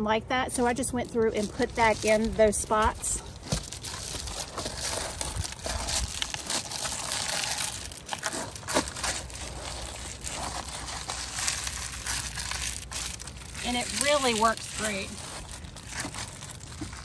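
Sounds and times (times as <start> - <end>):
foil insulation crinkling: 0.5 - 17.0.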